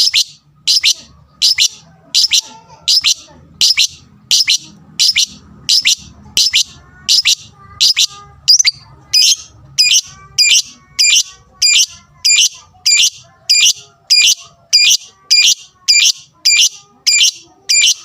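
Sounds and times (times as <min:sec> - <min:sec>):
lovebird sharp high calls: 0:00.0 - 0:18.0.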